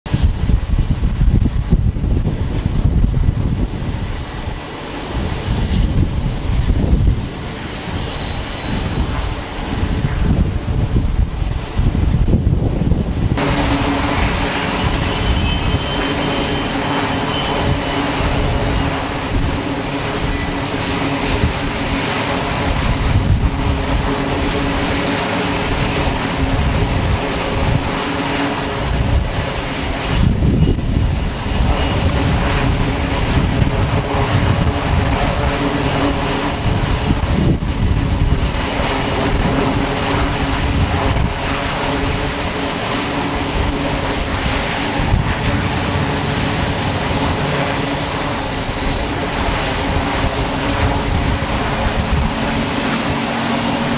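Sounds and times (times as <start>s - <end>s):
faint high whine: 0.1s - 53.9s
jet engines running: 0.1s - 53.9s.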